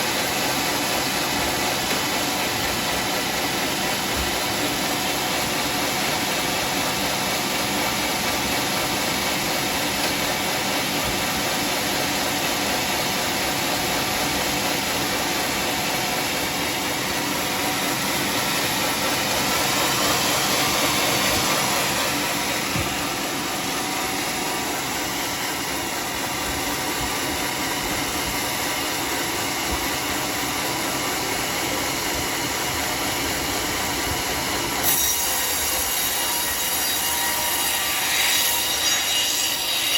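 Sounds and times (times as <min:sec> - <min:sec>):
sawmill motor and blade whirring: 0:00.0 - 0:39.9.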